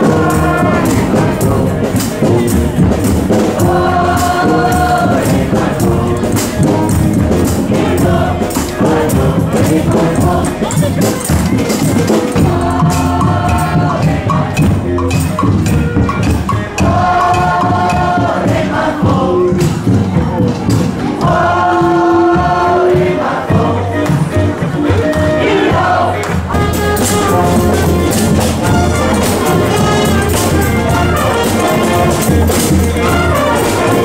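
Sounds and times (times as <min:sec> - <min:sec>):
horn or vocal melody: 0:00.0 - 0:18.4, 0:21.4 - 0:34.0
bass drum and samba drums: 0:00.0 - 0:34.0.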